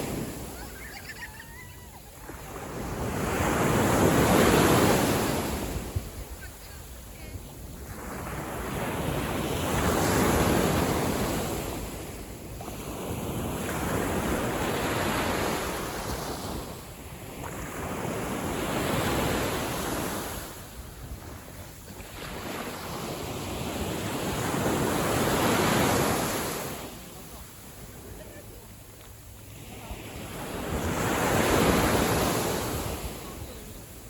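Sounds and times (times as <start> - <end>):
gentle sea waves washing in: 0.0 - 34.0.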